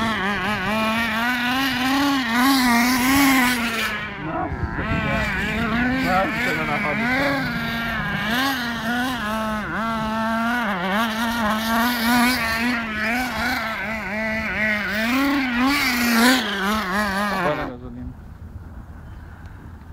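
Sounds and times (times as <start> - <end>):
small nitro engine running: 0.0 - 18.2.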